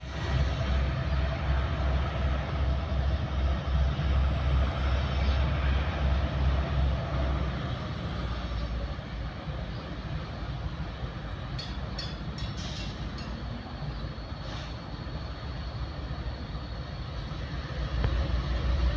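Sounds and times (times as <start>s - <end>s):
diesel locomotive rumbling: 0.0s - 18.9s
train noise: 0.0s - 18.9s.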